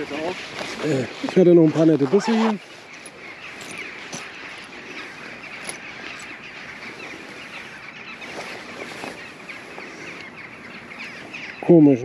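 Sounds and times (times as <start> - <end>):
birds chattering and calling: 0.0 - 12.0.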